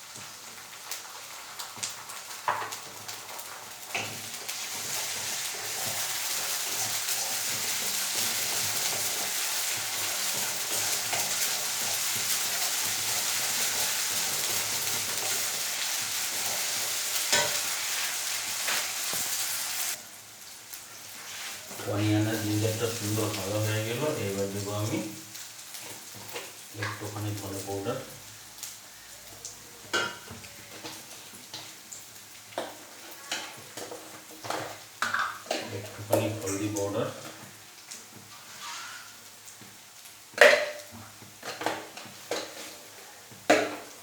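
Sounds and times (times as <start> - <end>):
food frying in oil: 0.0 - 44.0.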